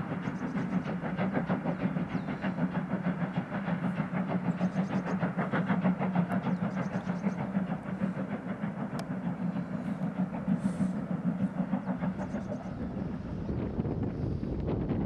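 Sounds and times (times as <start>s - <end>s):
low rumble of train: 0.0s - 15.0s
steam locomotive exhaust chuffing: 0.0s - 15.0s.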